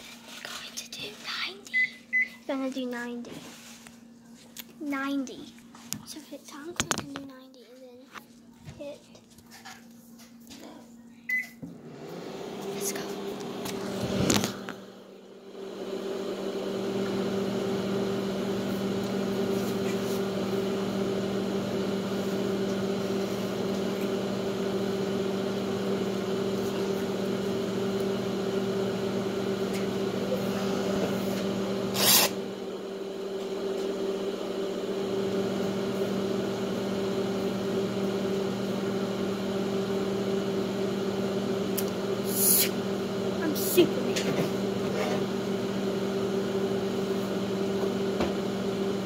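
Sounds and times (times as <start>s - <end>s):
microwave oven humming: 1.0s - 2.8s, 8.5s - 49.0s.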